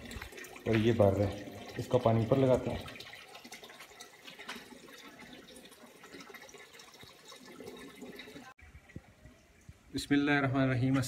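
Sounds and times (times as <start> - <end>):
water pouring into a tank: 0.0 - 9.1.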